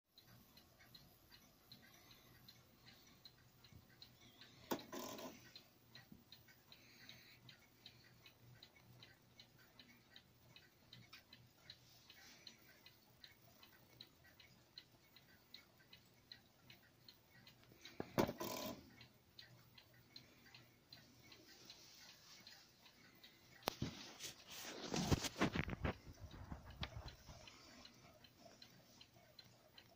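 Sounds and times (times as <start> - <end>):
clock ticking faintly: 0.1 - 29.9.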